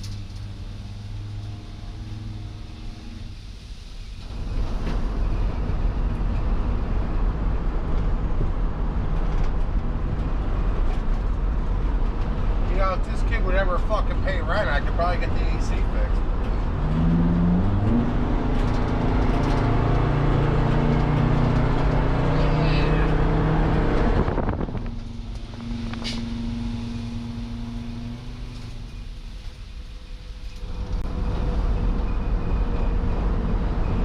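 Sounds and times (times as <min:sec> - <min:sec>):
van engine and road noise: 0:00.0 - 0:34.0.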